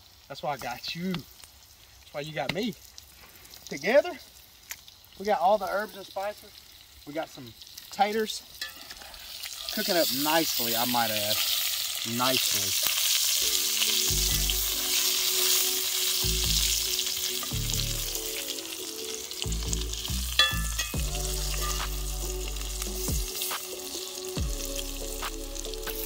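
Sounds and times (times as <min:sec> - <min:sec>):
potatoes sizzling in a skillet: 0:00.0 - 0:26.0.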